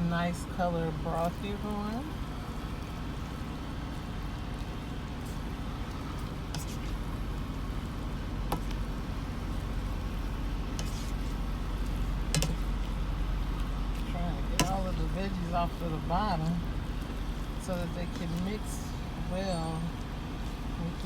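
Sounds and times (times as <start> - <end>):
low steady hum: 0.0 - 21.0
noodles sizzling in a pan: 0.4 - 19.4.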